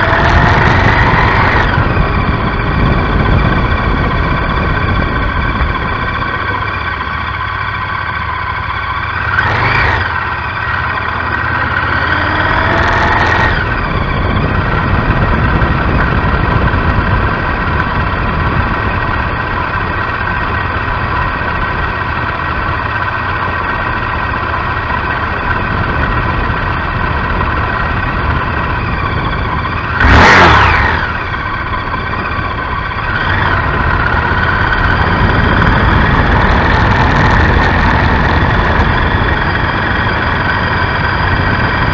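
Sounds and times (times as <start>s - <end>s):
motorcycle engine running: 0.0s - 41.9s
road noise: 0.0s - 41.9s
wind noise: 0.0s - 41.9s.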